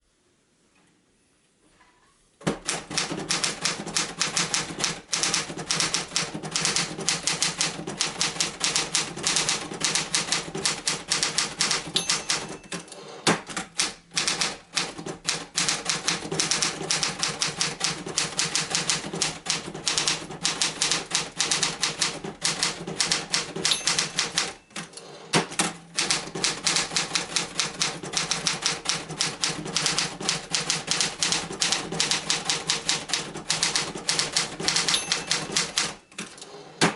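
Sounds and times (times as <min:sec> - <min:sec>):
manual typewriter typing: 0:02.5 - 0:36.9.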